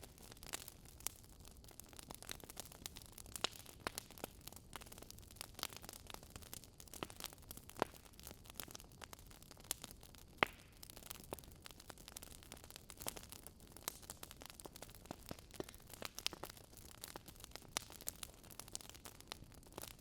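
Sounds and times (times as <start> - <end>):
burning wood crackling: 0.0 - 20.0.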